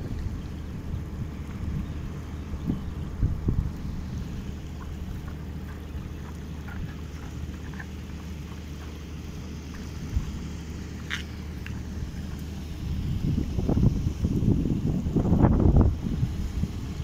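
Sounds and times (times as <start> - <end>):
floodwater running: 0.0 - 17.0
wind rumbling on microphone: 0.0 - 17.0.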